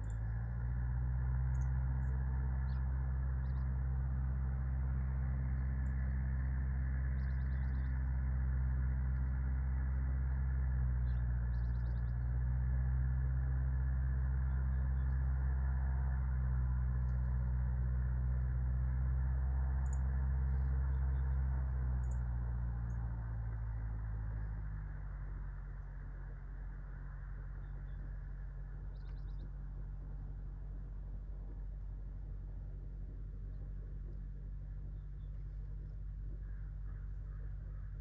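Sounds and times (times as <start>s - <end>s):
low motor hum: 0.0s - 38.0s
faint bird chirps: 1.4s - 6.1s, 6.7s - 9.3s, 10.8s - 15.8s, 16.4s - 24.6s, 25.7s - 38.0s.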